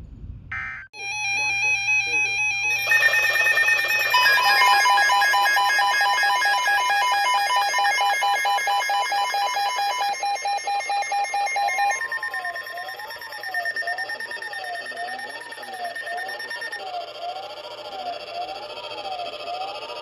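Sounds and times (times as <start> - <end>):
electronic alarm beeping: 0.5 - 20.0
sweeping alarm tone: 0.5 - 20.0.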